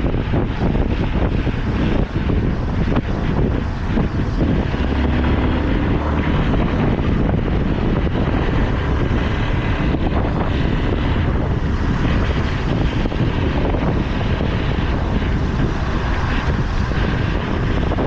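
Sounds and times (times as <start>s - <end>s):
motorcycle engine and road rumble: 0.0s - 18.0s
wind noise on microphone: 0.0s - 18.0s.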